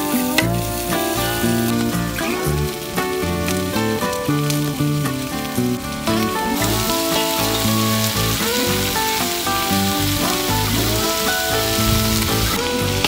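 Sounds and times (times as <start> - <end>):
background music with melody: 0.0 - 13.0
peppers sizzling in a wok: 0.0 - 13.0.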